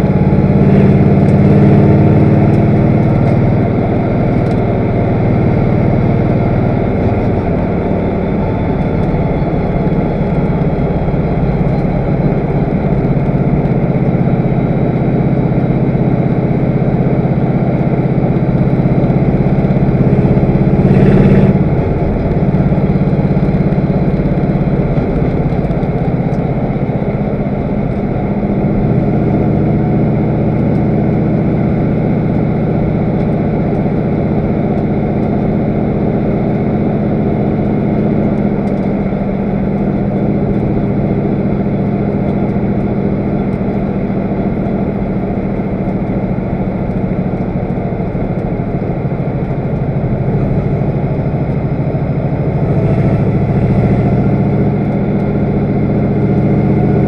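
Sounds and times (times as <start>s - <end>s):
race car engine at high revs: 0.0s - 57.0s
wind and road noise: 0.0s - 57.0s.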